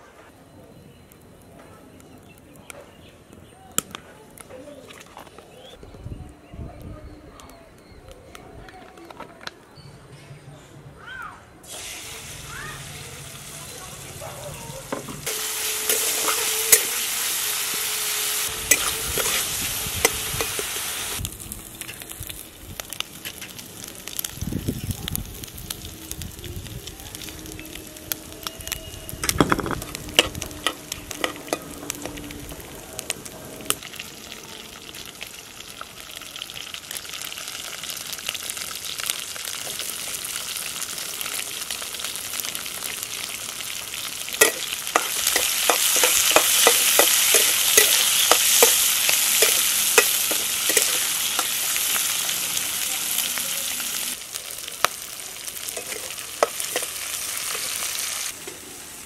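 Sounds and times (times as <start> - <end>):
prawns sizzling in hot oil: 11.6 - 59.0.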